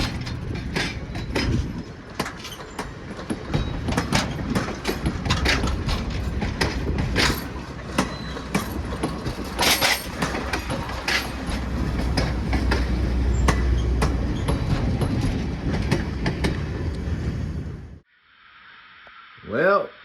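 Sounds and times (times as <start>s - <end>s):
wheels clicking over rails: 0.0s - 18.0s
train rumbling on track: 0.0s - 18.1s.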